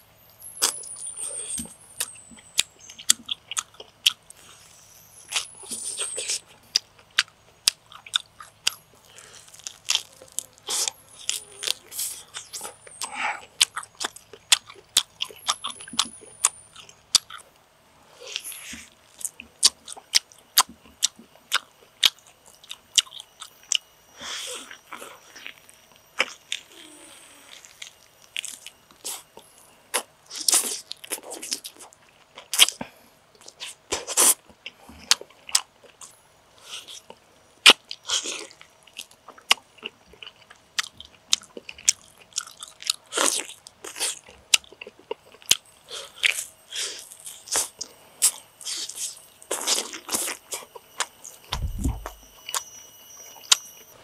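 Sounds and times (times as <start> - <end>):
chewing with mouth smacks: 0.6 - 17.6, 18.2 - 52.6
crunchy bites: 0.6 - 17.6, 18.2 - 52.6.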